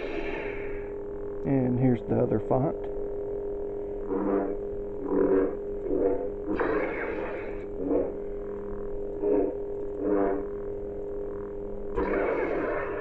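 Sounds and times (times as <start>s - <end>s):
electric blade hum: 0.0s - 13.0s.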